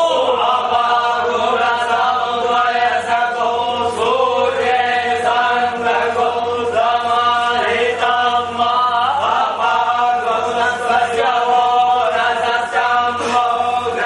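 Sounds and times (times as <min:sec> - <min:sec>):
voices chanting in unison: 0:00.0 - 0:14.0.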